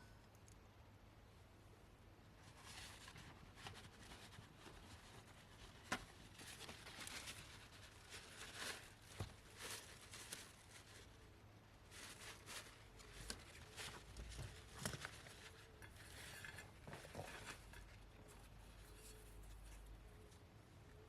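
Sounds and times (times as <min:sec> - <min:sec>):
faint clicks and rustles: 0:02.3 - 0:21.0.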